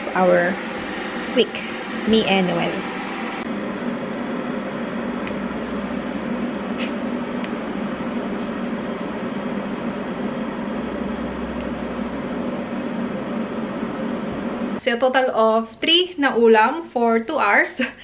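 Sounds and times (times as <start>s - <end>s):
appliance humming: 0.0s - 15.6s.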